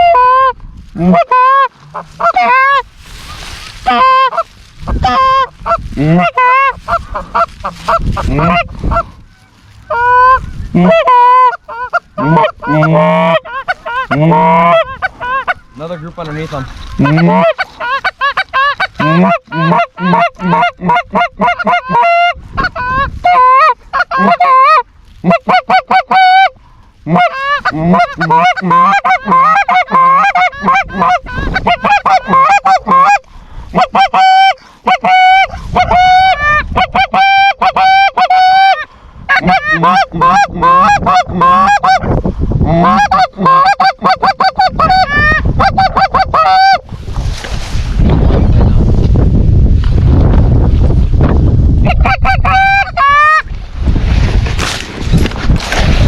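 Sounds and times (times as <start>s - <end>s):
geese honking and clucking: 0.0s - 42.1s, 42.7s - 46.9s, 51.8s - 53.5s.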